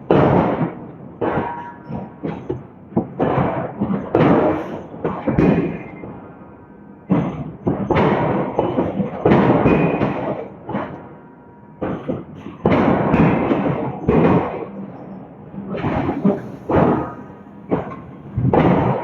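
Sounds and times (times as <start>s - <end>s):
forging hammer striking steel: 0.0s - 19.0s.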